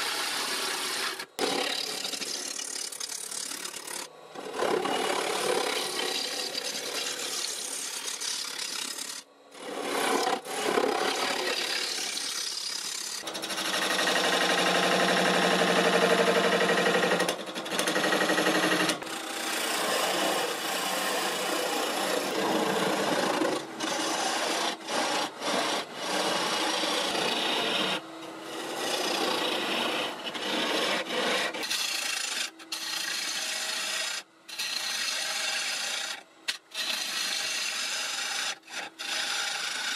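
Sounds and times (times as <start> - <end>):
gouge cutting spinning wood: 0.0 - 39.9.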